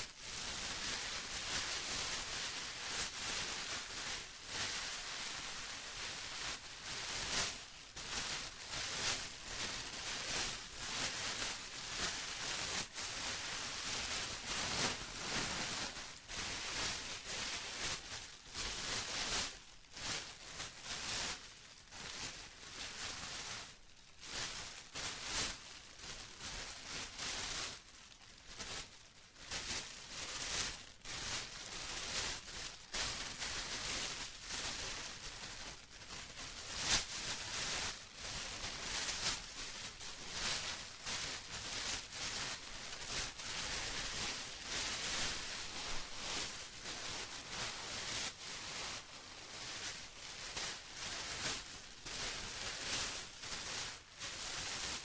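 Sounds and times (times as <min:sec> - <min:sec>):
plastic crinkling: 0:00.2 - 0:17.9, 0:25.8 - 0:53.9.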